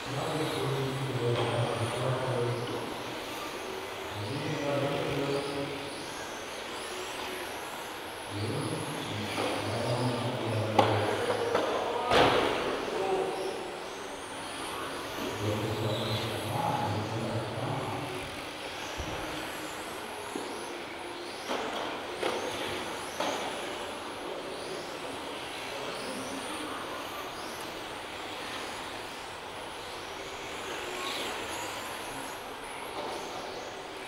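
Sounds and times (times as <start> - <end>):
electric rc cars whining: 0.0 - 34.0.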